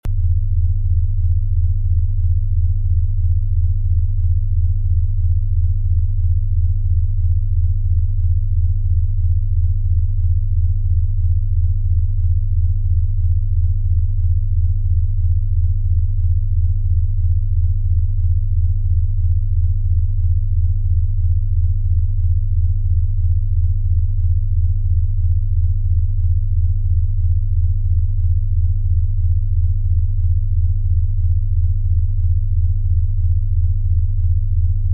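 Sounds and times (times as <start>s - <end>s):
low pulsing sine tone: 0.0s - 34.9s.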